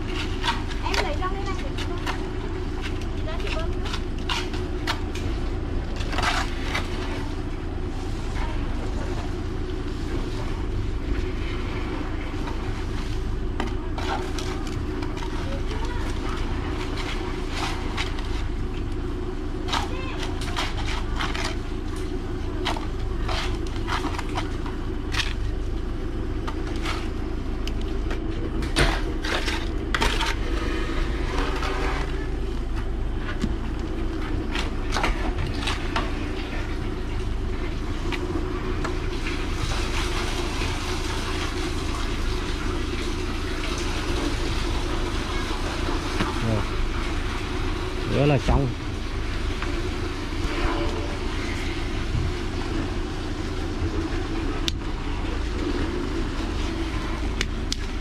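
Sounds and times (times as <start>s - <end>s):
truck engine and suction pump droning: 0.0s - 58.0s.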